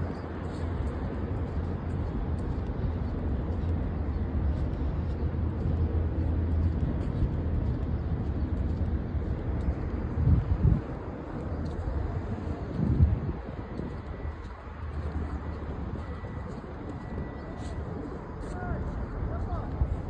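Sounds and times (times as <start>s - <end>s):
distant traffic: 0.0s - 20.0s
wind rumble on microphone: 0.0s - 20.0s.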